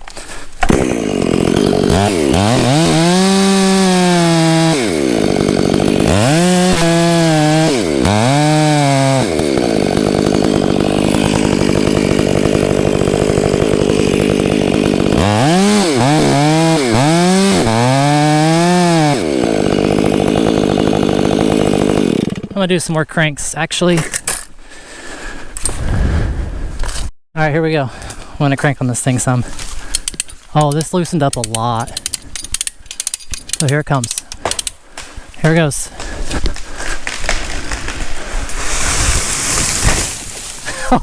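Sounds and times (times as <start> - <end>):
chainsaw cutting wood: 0.0 - 22.6, 29.5 - 30.4, 31.3 - 41.0.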